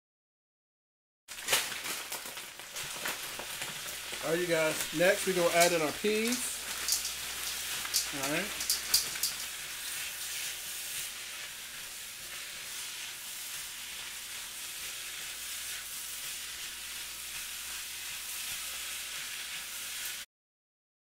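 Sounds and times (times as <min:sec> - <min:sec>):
fried rice sizzling in a pan: 0:01.3 - 0:20.3
spatula stirring: 0:02.8 - 0:20.2.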